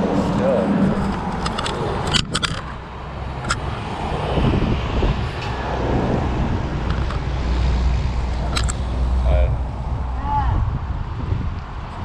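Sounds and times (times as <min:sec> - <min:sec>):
low rumble of vehicle engines: 0:00.0 - 0:12.0.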